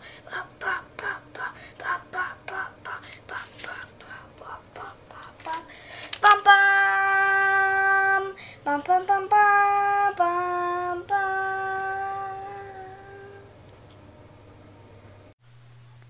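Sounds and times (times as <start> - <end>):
child singing wordless tune: 0.2 - 13.5.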